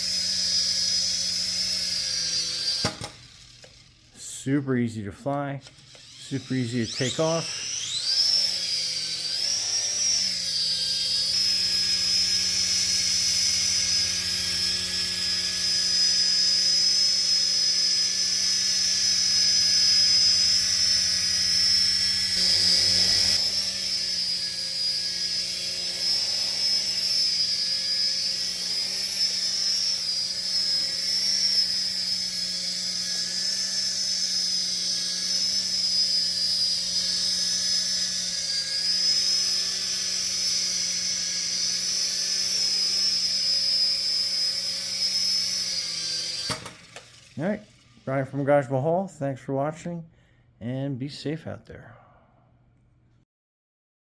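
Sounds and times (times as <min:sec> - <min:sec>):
toy helicopter motors whining: 0:00.0 - 0:48.6.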